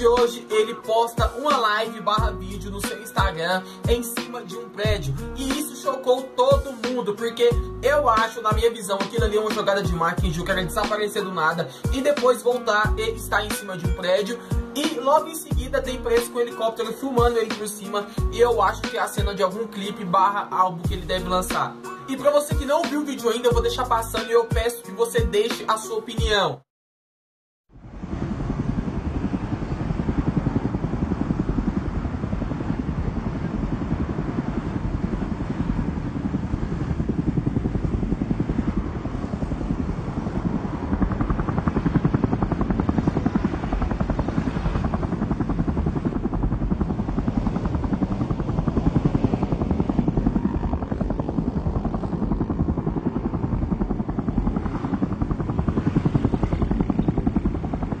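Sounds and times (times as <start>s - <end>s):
helicopter rotor chop: 0.0s - 19.5s, 27.8s - 58.0s.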